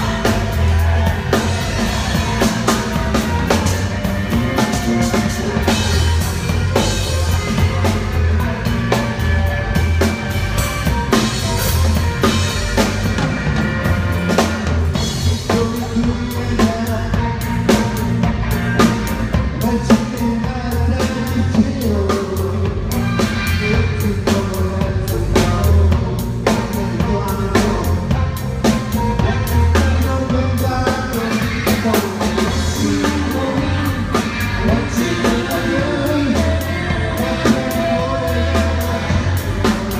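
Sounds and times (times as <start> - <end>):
drum kit with rimshots: 0.0 - 39.9
person singing: 0.0 - 39.9
rock band playing: 0.0 - 39.9.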